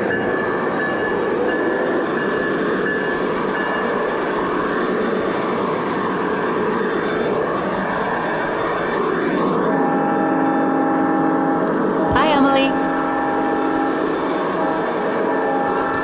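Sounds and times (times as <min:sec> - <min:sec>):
model train rolling on track: 0:00.0 - 0:16.0.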